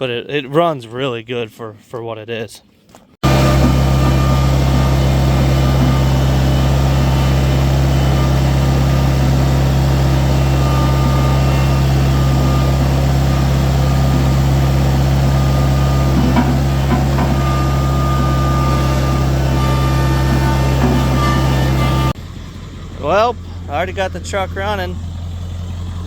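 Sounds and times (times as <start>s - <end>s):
engine idling: 3.2s - 26.0s.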